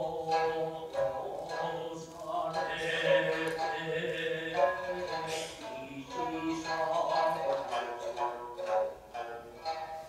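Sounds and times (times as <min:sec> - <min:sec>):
plucked strings: 0:00.0 - 0:10.0.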